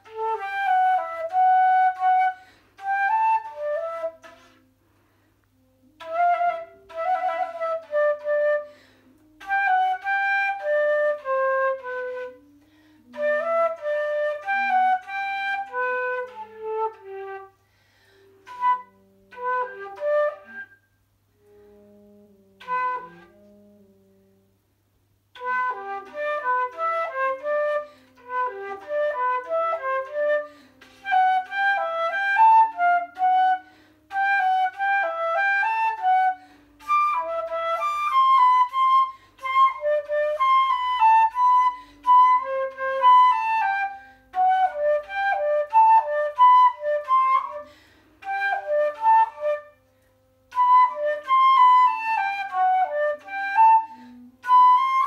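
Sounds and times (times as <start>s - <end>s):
solo flute: 0.0s - 24.5s, 25.3s - 55.0s.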